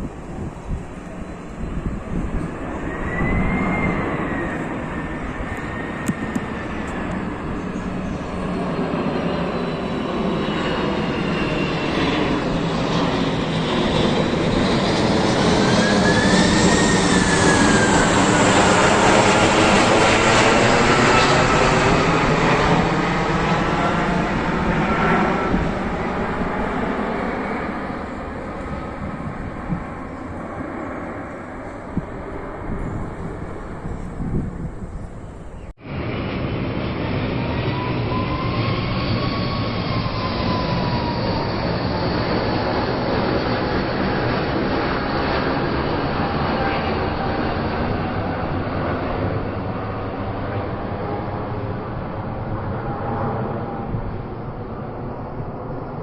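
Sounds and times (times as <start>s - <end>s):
jet engines passing by: 0.0s - 56.0s.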